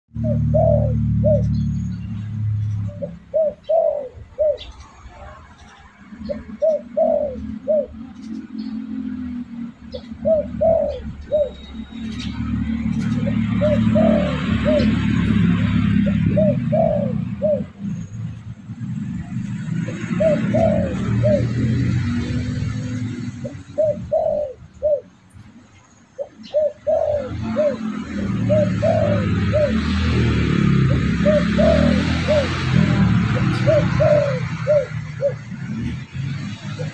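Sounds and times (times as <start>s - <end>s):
dove cooing: 0.1s - 18.4s, 19.0s - 25.4s, 26.2s - 36.9s
small birds chirping: 0.1s - 36.9s.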